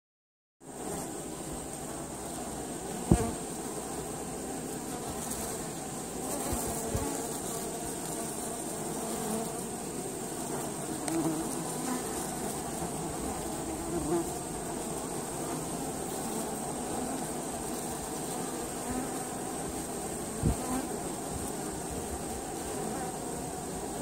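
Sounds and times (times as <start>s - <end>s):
bees buzzing: 0.6s - 24.0s.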